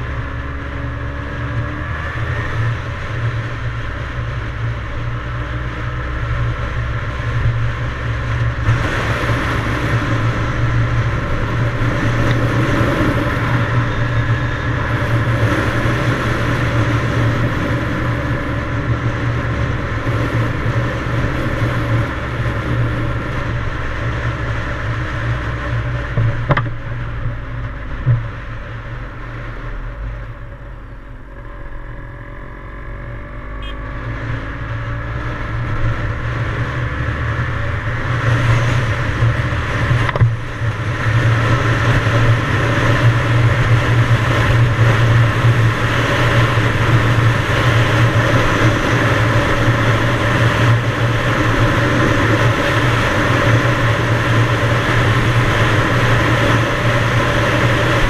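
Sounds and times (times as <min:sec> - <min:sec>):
motorcycle engine running: 0:00.0 - 0:58.0
rushing noise: 0:00.0 - 0:58.0.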